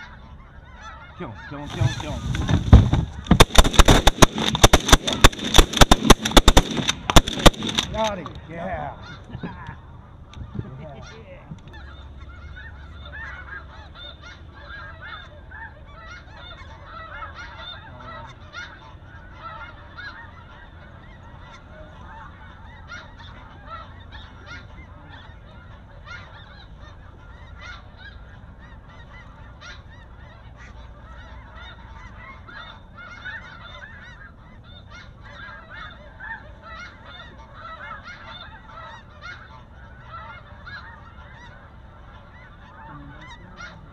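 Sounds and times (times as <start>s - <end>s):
flock of geese honking: 0.0s - 43.9s.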